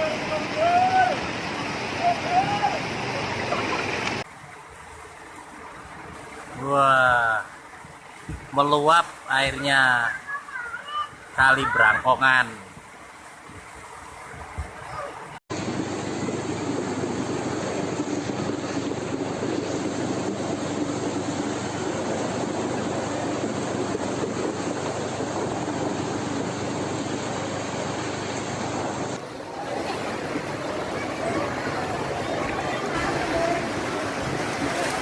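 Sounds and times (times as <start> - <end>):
river rushing in flood: 0.0 - 35.0.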